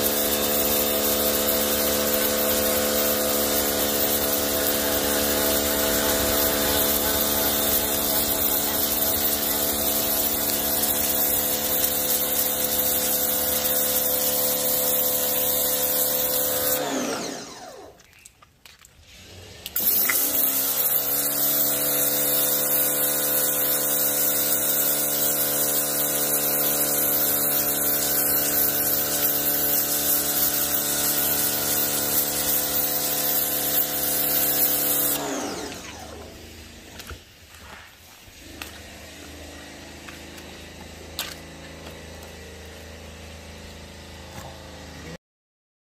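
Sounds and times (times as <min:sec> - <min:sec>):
water jet hissing on concrete: 0:00.0 - 0:17.4, 0:18.7 - 0:44.4
pressure washer pump humming: 0:00.0 - 0:18.1, 0:19.2 - 0:45.2.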